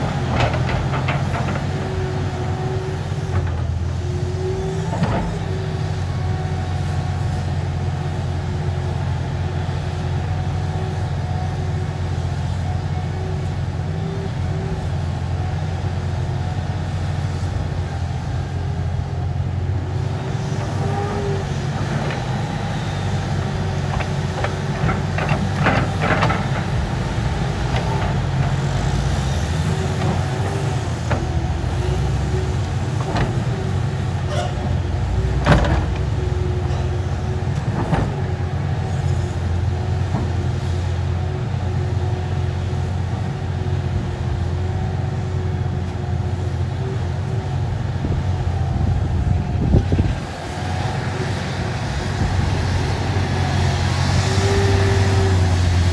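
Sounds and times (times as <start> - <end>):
excavator diesel engine humming: 0.0 - 55.9.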